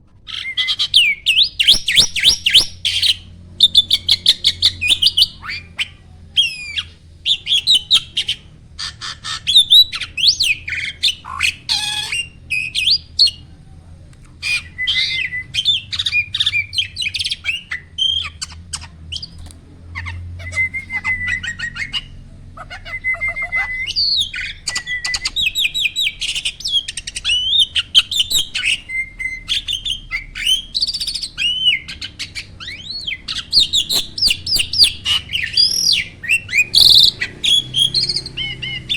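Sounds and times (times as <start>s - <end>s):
starling singing: 0.3s - 13.6s, 14.3s - 38.9s.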